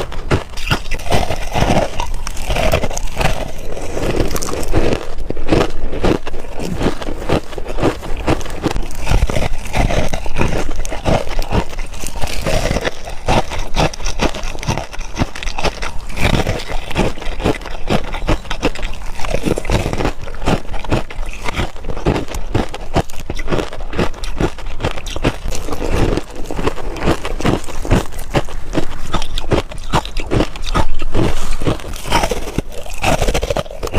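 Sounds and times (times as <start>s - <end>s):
crunching ice between teeth: 0.0s - 33.9s.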